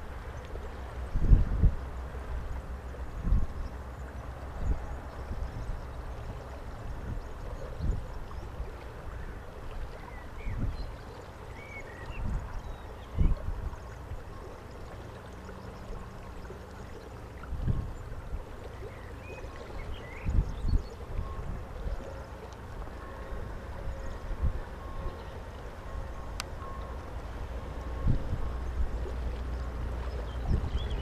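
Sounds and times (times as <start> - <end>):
steady rushing wind: 0.0 - 31.0
wind buffeting microphone: 0.0 - 31.0.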